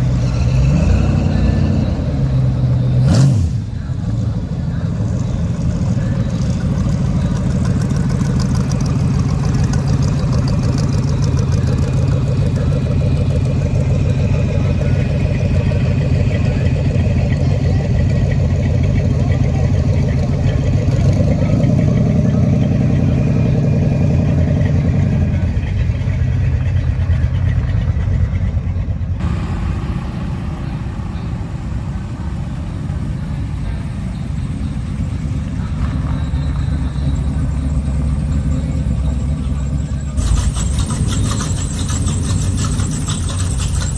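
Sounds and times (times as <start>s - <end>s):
car engines passing slowly: 0.0s - 43.9s.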